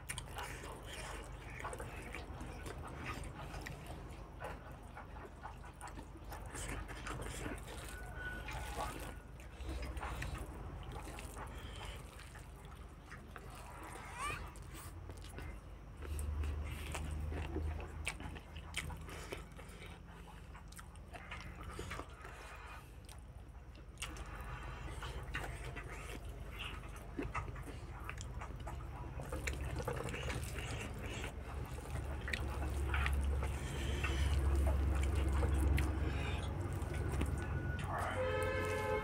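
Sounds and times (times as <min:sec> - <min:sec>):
wet chewing and lip-smacking: 0:00.0 - 0:39.0.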